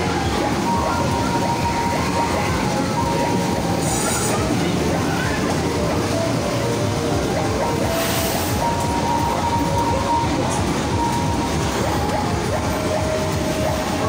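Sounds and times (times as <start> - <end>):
machine mechanical rumble: 0.0 - 14.0.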